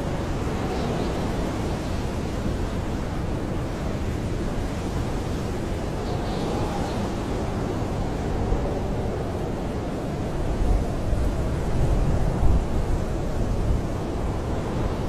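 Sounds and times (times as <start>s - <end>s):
blizzard wind rushing: 0.0s - 15.0s
faint wind whistling: 0.0s - 15.0s.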